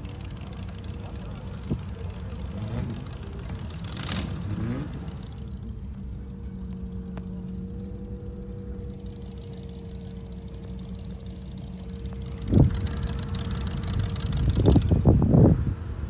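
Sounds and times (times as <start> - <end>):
car engine idling low rumble: 0.0 - 16.0.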